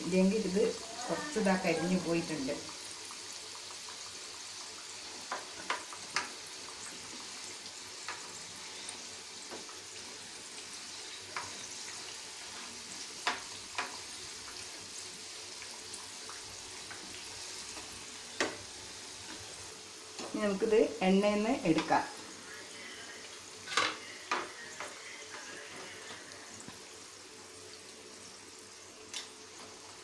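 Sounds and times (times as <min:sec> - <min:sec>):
dough deep-frying in hot oil: 0:00.0 - 0:30.0.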